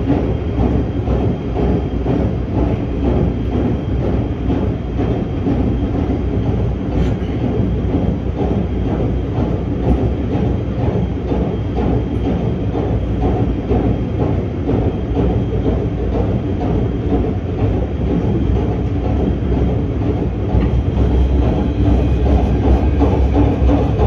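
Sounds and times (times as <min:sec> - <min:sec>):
subway train rumbling in tunnel: 0:00.0 - 0:24.0.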